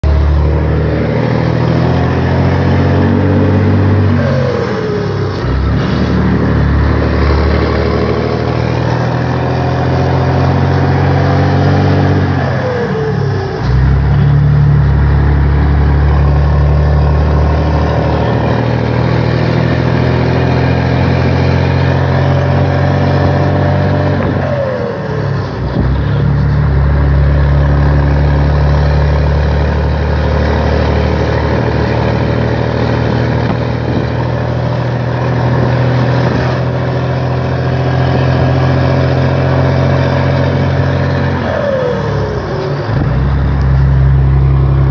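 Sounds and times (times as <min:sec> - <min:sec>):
diesel engine pulling: 0:00.0 - 0:44.9.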